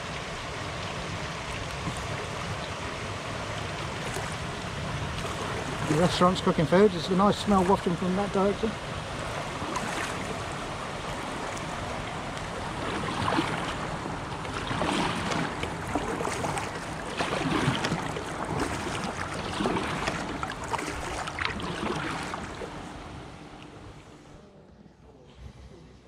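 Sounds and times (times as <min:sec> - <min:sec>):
paddle splashing in water: 0:00.0 - 0:23.9.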